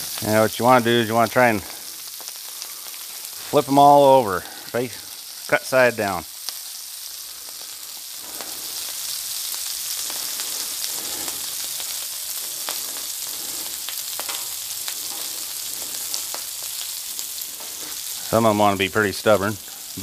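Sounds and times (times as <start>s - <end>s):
sprouts sizzling on a griddle: 0.0s - 20.0s.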